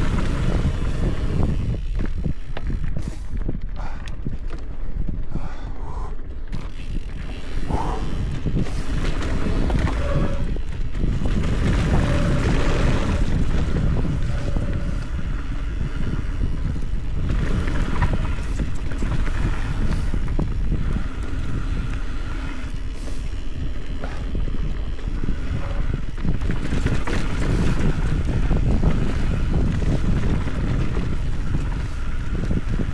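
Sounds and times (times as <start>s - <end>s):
bike tyres rumbling and rattling: 0.0s - 32.9s
wind rushing over microphone: 0.0s - 32.9s.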